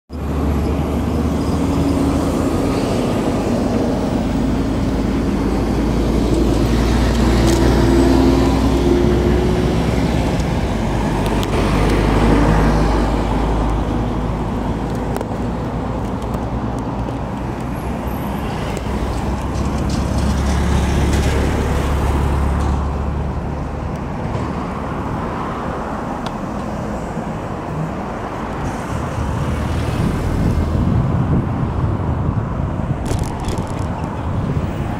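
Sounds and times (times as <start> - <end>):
low traffic rumble: 0.1 - 34.9
motor vehicles passing: 0.1 - 34.9.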